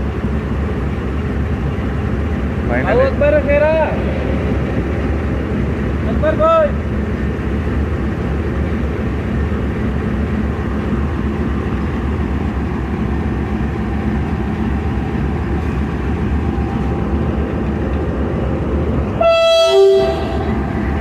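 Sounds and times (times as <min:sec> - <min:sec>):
diesel locomotive idling: 0:00.0 - 0:21.0.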